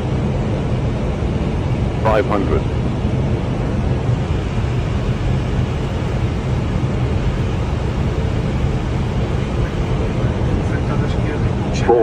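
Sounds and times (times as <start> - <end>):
airliner engines and airflow: 0.0 - 12.0.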